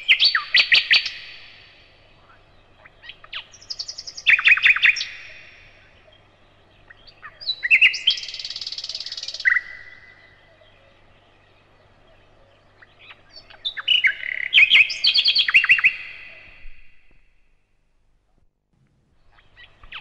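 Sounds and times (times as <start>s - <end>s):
nightingale singing: 0.0s - 17.4s, 19.1s - 20.0s.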